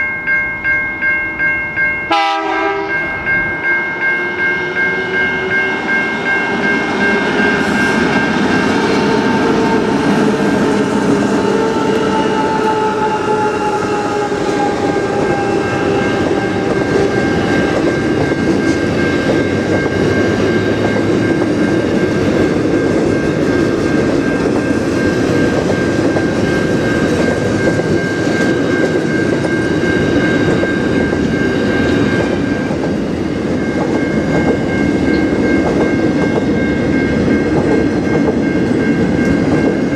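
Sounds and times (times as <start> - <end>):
steady high tones: 0.0 - 39.9
train rumble and rail noise: 0.0 - 39.9.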